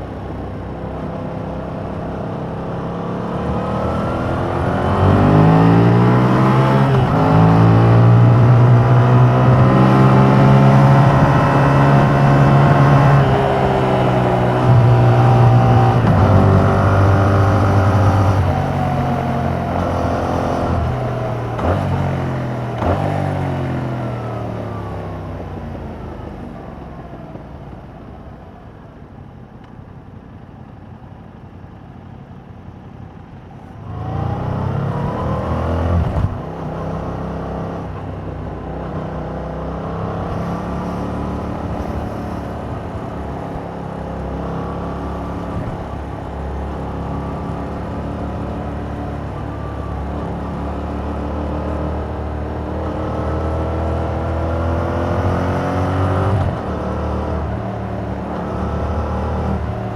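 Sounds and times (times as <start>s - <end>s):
motorcycle engine revving: 2.4s - 24.6s, 33.8s - 59.9s.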